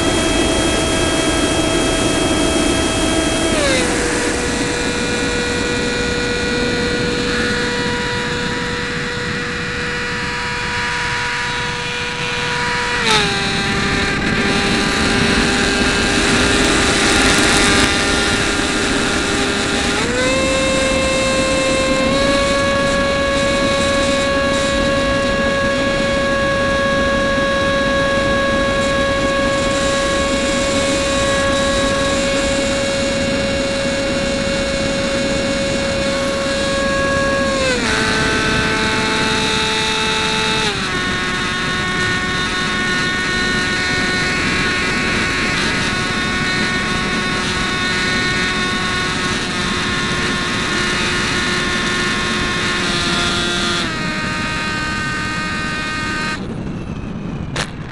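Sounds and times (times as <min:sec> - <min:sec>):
electric ducted fan whining: 0:00.0 - 0:57.9.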